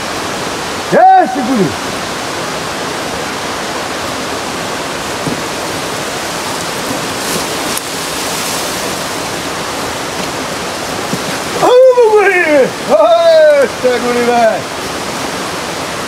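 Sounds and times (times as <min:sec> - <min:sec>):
rush of falling water: 0:00.0 - 0:16.0.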